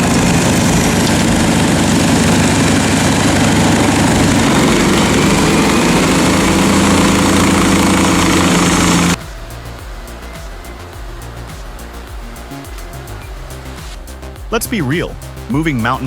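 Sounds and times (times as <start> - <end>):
wood chipper running: 0.0 - 13.9.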